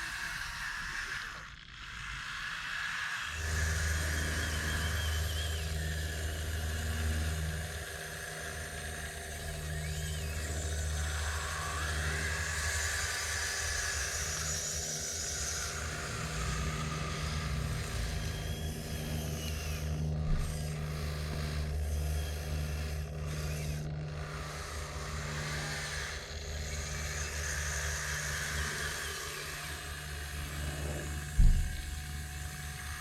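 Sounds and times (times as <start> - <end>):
hydraulic pump humming: 0.0 - 33.0.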